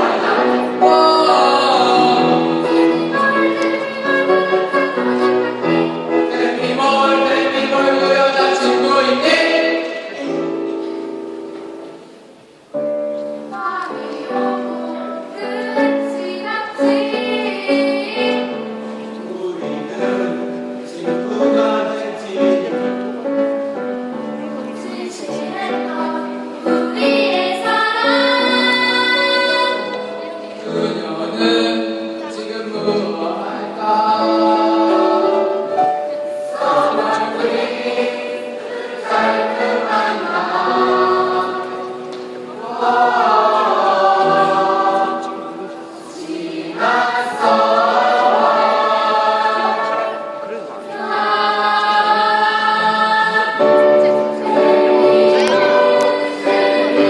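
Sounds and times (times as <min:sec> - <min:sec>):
choir singing: 0:00.0 - 0:12.0, 0:12.8 - 0:57.0
instrumental accompaniment: 0:00.0 - 0:57.0.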